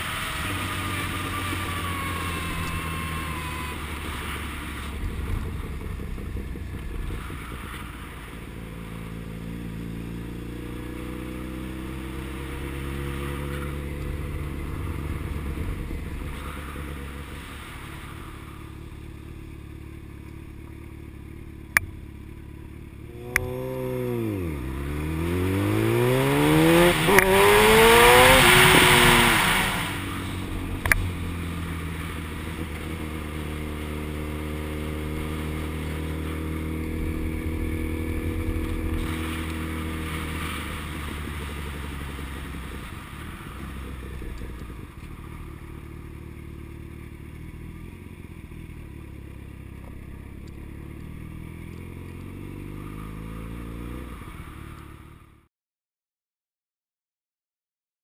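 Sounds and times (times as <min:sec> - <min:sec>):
motorcycle engine accelerating: 0:00.0 - 0:55.5.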